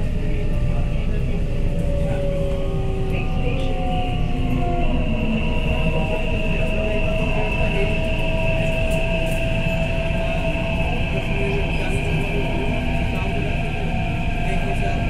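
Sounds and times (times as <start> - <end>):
constant high whine: 0.0 - 15.0
train wheels rumbling on rail: 0.0 - 15.0.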